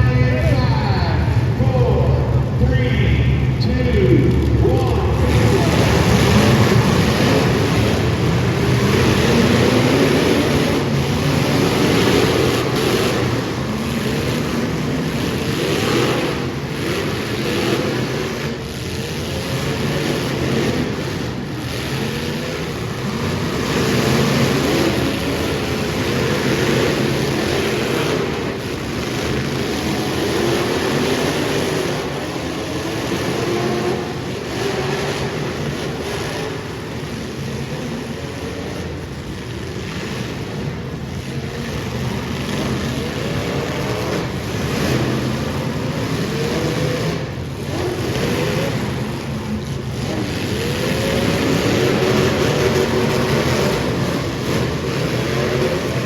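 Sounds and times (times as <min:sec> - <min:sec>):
race car engines: 0:00.0 - 0:56.0.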